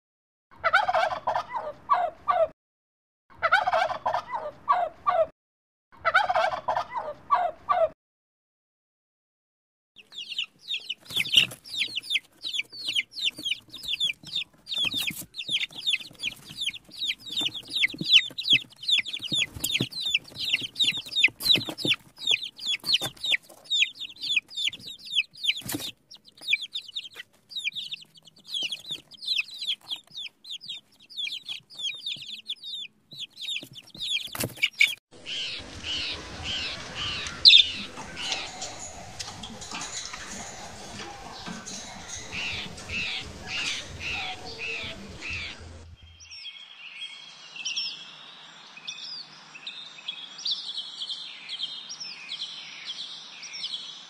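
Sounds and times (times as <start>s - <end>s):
birds chirping: 10.0s - 54.0s.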